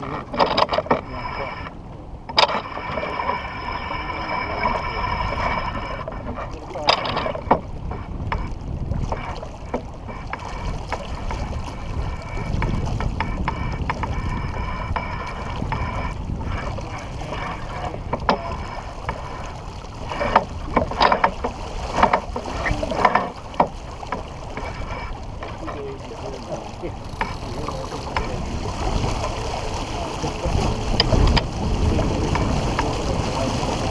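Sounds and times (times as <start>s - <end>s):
water rushing along hull: 0.0s - 33.9s
wind buffeting microphone: 0.0s - 33.9s.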